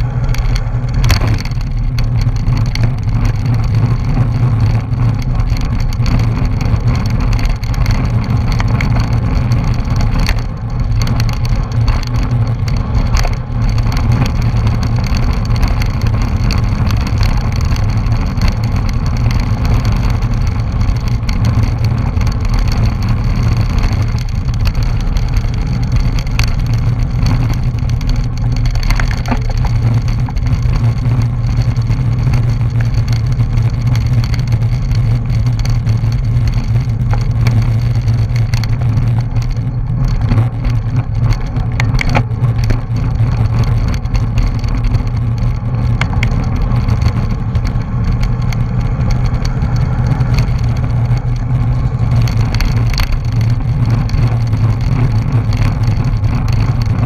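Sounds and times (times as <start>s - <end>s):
bike tyre and drivetrain noise: 0.0s - 57.0s.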